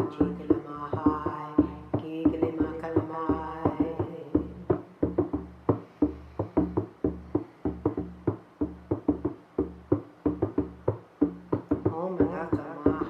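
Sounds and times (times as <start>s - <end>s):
hand drum beating: 0.0s - 13.0s.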